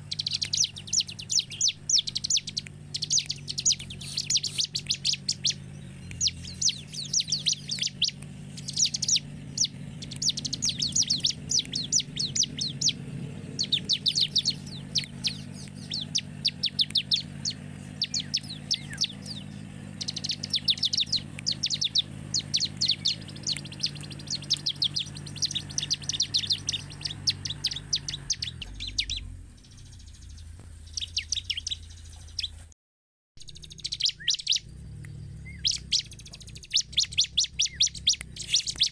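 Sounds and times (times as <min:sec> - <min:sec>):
steady low hum: 0:00.0 - 0:32.5, 0:33.4 - 0:38.9
bird chirping: 0:00.0 - 0:32.7, 0:33.4 - 0:38.9.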